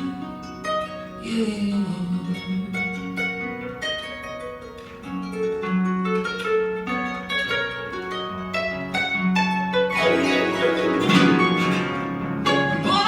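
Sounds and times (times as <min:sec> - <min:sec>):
plucked string instrument: 0:00.0 - 0:13.0.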